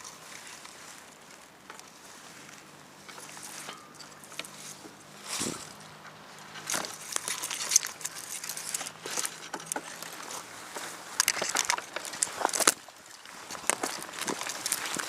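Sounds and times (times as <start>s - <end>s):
footsteps crunching on dry ground: 0.0s - 15.0s.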